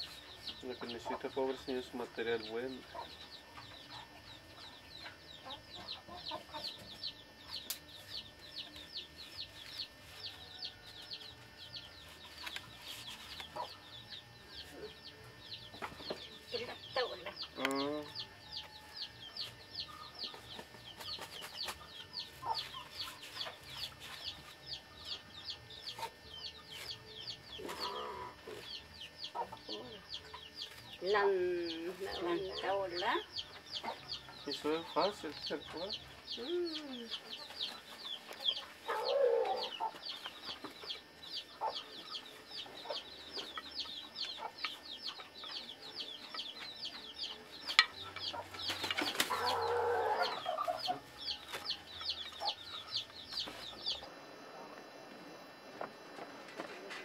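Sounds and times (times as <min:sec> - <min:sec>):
birds chirping high peeps: 0:00.0 - 0:54.2.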